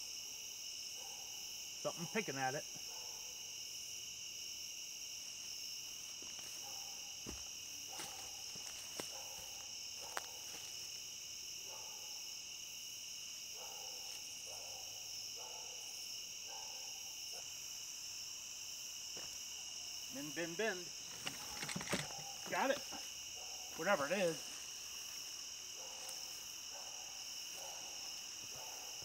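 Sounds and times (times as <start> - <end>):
crickets and insects chirring: 0.0 - 29.0.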